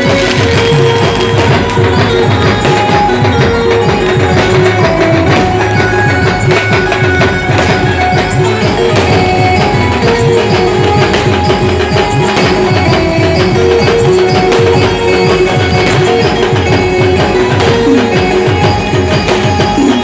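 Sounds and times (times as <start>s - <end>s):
band music with held melody notes: 0.0s - 20.0s
fast busy drumming and percussion: 0.0s - 20.0s.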